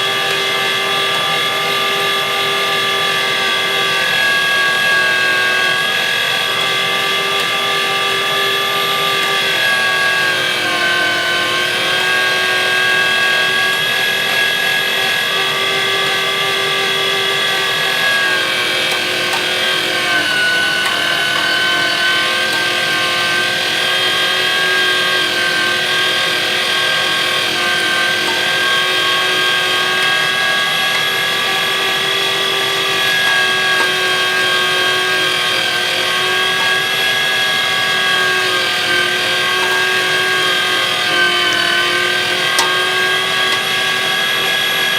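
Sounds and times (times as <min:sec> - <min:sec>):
electric meat grinder motor whining: 0:00.0 - 0:44.9.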